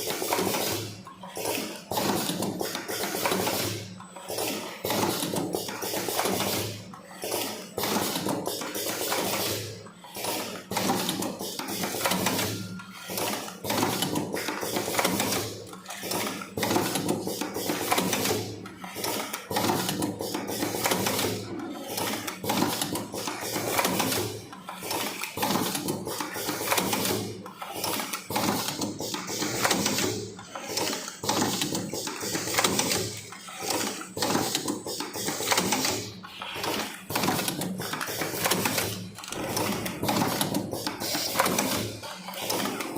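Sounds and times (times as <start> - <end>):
packaging machine clattering: 0.0 - 42.9.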